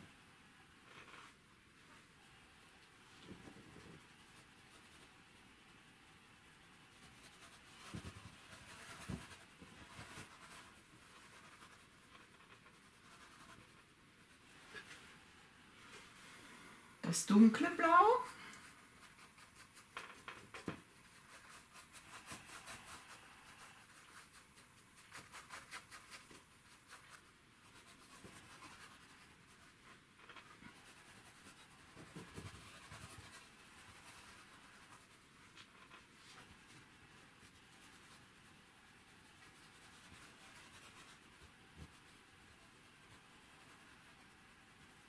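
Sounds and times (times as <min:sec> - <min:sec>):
paintbrush scratching on canvas: 0:06.6 - 0:16.2, 0:17.3 - 0:45.0.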